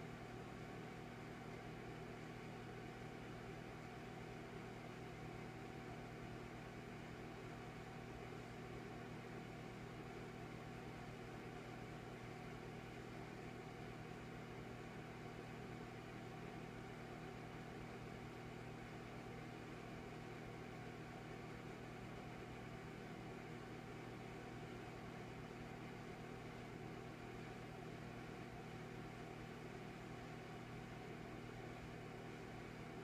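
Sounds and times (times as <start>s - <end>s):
electric fireplace humming: 0.0s - 33.0s.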